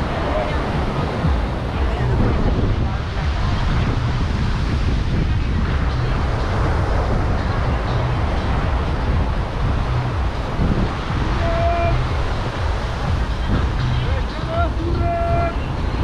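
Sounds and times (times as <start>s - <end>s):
surf washing: 0.0s - 16.0s
wind rumbling on microphone: 0.0s - 16.0s.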